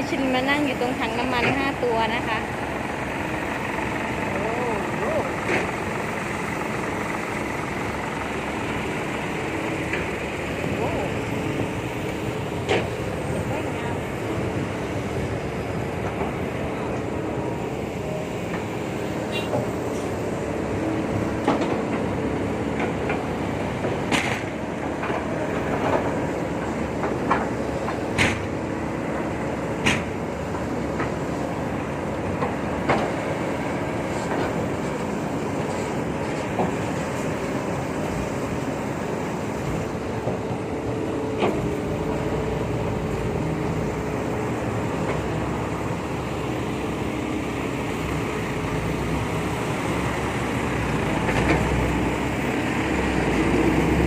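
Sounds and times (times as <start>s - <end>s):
heavy truck engines running: 0.0s - 54.0s.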